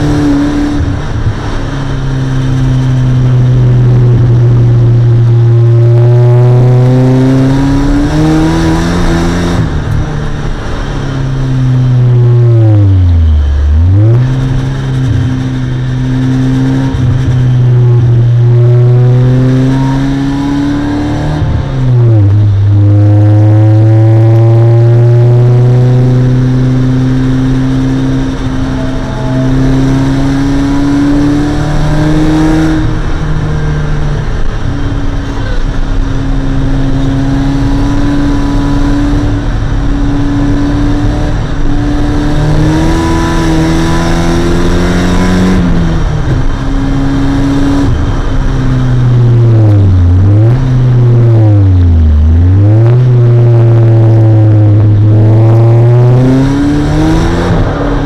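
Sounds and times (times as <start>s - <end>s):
car engine at high revs: 0.0s - 58.0s
road and wind noise: 0.0s - 58.0s.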